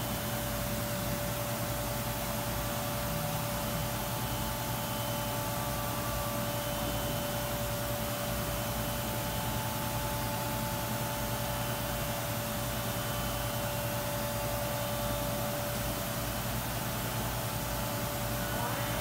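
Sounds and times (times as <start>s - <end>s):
machine hum and hiss: 0.0s - 19.0s.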